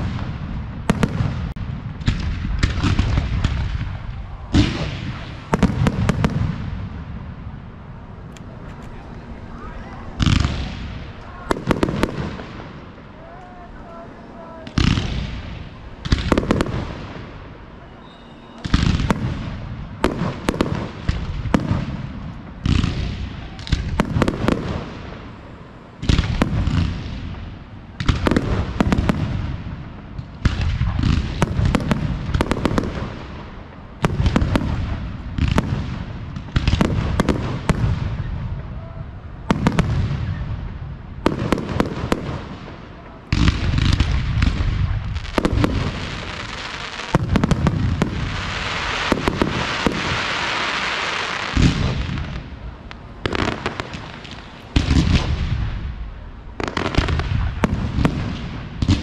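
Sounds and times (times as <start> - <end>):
fireworks booming bangs: 0.0 - 59.0
fireworks crackling hiss: 0.0 - 59.0.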